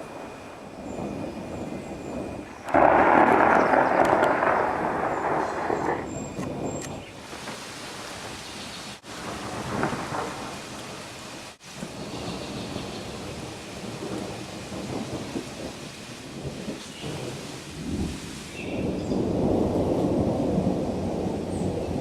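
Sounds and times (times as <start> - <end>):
rain falling: 0.0 - 22.0
thunder rumbling: 0.0 - 22.0.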